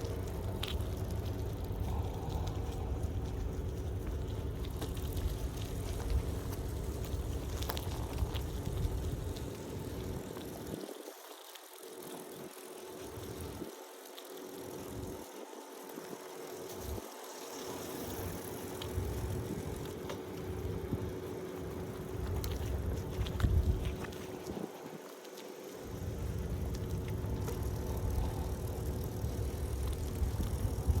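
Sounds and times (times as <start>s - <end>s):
wind rumble on microphone: 0.0s - 13.9s, 14.6s - 31.0s
bicycle tyre and drivetrain noise: 0.0s - 31.0s
bike clicks and rattles: 0.0s - 31.0s.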